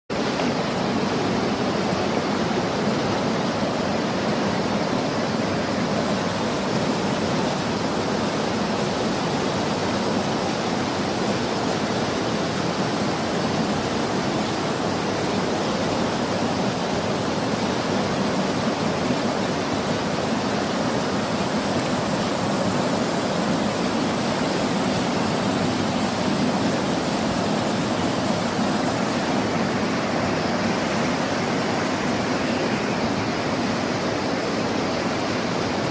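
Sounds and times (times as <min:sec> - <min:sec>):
waterfall and river rushing: 0:00.1 - 0:35.9.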